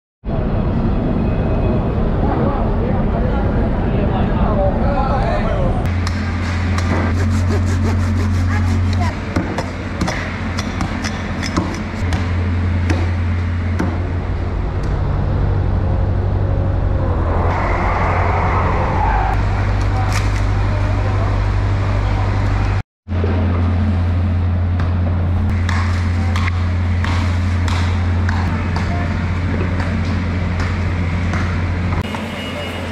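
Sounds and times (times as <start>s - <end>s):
low machine hum: 0.3s - 32.0s
distant voices: 0.3s - 32.9s.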